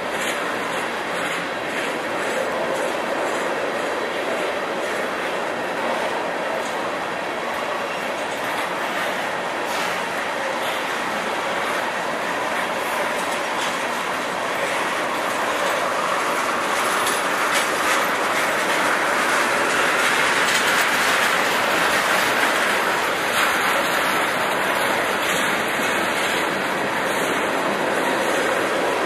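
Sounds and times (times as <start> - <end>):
train wheels roaring on rail: 0.0 - 29.0
wheels clacking over rail joints: 0.0 - 29.0.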